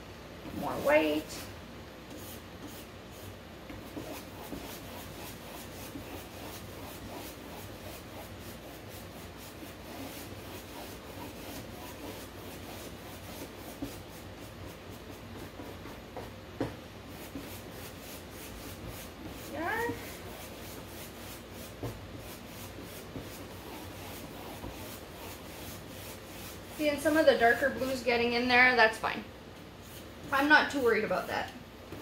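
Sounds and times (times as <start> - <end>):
paintbrush scratching on canvas: 0.5 - 1.5, 2.1 - 16.4, 17.1 - 28.1, 29.8 - 31.3.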